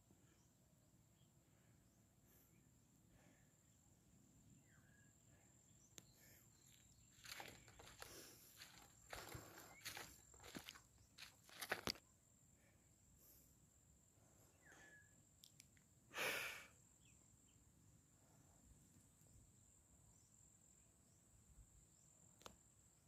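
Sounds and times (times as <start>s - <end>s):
crickets trilling: 2.5s - 23.0s.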